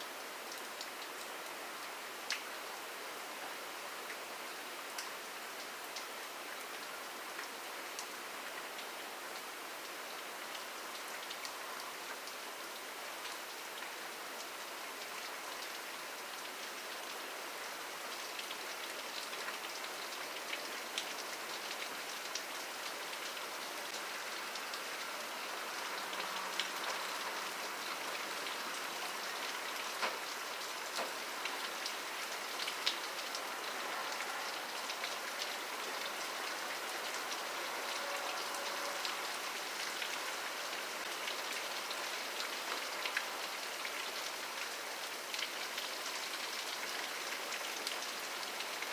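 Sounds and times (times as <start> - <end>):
rain hissing on a surface: 0.0 - 48.9.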